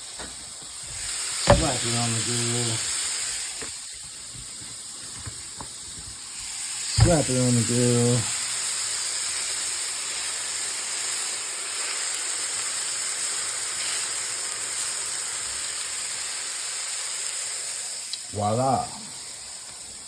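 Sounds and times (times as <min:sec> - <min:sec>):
burger patties sizzling on grill: 0:00.0 - 0:20.0.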